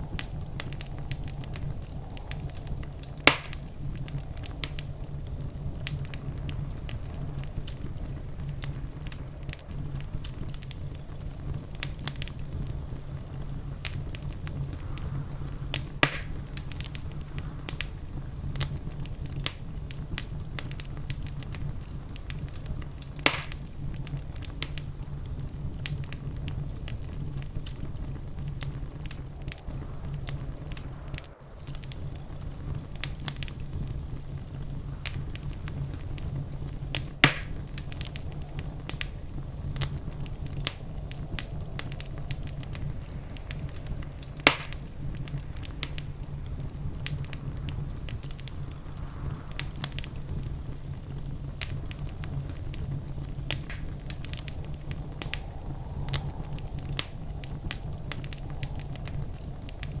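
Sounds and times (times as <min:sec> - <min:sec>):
loud fire pops: 0:00.0 - 1:00.0
low rumble: 0:00.0 - 1:00.0
wood fire crackling: 0:00.0 - 1:00.0.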